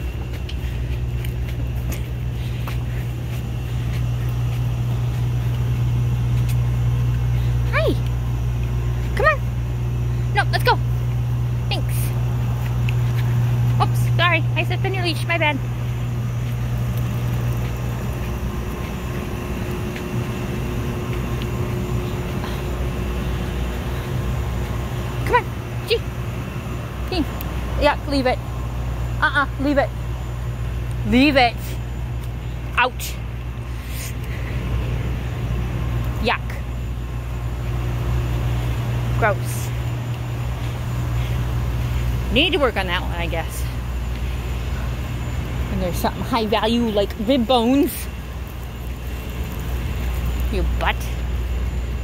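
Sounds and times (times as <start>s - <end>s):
footsteps on path: 0.0s - 26.7s, 31.8s - 36.2s, 36.9s - 51.8s
low mechanical drone: 0.0s - 52.0s
steady low hum: 0.0s - 52.0s.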